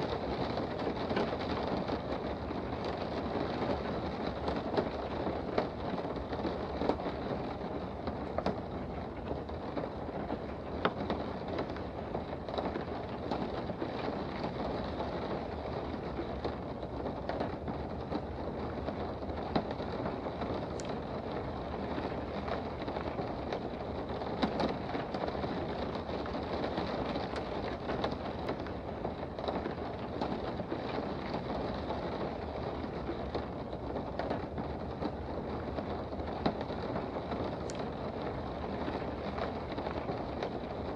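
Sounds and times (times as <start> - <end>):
rain heard from indoors: 0.0 - 40.9
raindrops ticking: 0.0 - 40.9.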